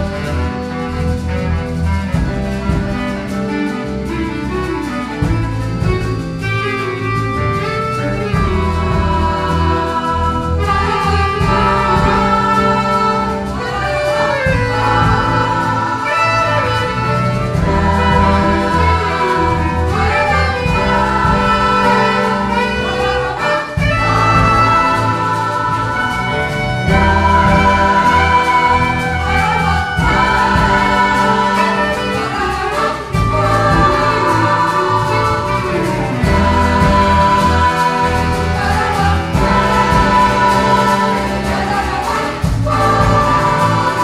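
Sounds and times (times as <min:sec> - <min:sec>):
folk band playing: 0:00.0 - 0:44.0
pulsing bass line: 0:00.0 - 0:44.0
women's choir singing: 0:08.2 - 0:44.0.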